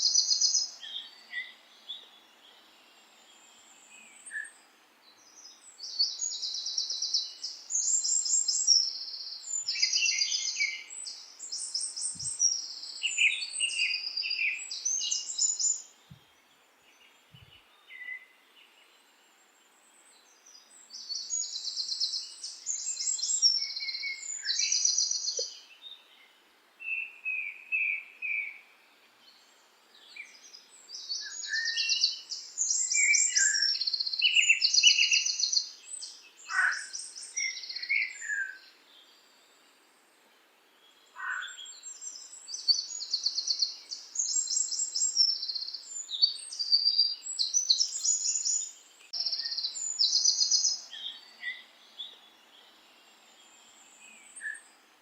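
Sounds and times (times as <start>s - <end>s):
songbird singing with fast trills: 0.0s - 19.2s, 20.0s - 39.7s, 40.7s - 55.0s.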